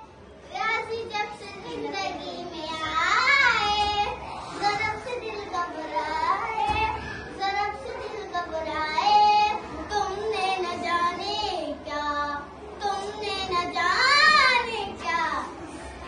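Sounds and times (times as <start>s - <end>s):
girl singing: 0.6s - 15.6s.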